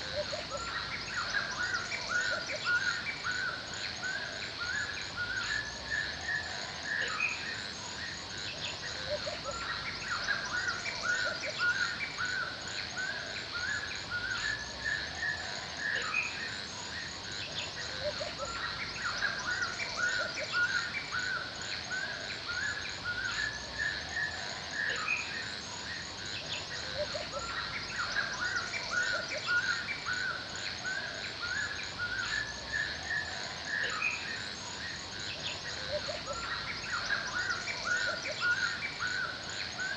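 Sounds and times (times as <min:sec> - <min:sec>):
insects chirping: 0:00.0 - 0:39.9
songbirds chirping: 0:00.0 - 0:39.9.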